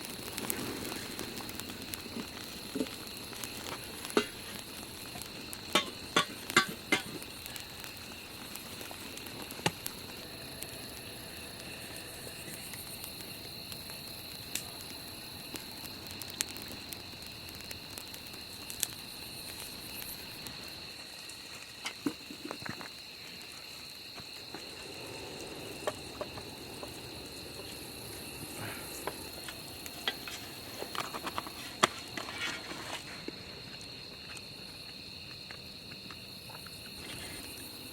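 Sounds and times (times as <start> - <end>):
fire popping and crackling: 0.0 - 37.9
night insects trilling: 0.0 - 37.9.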